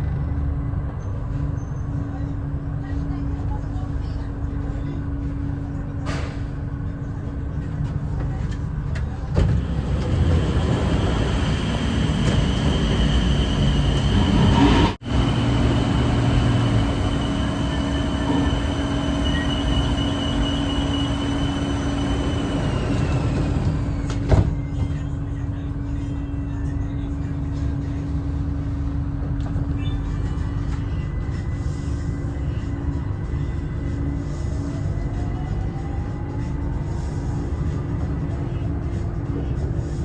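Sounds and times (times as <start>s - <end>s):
electric train rumble: 0.0s - 40.0s.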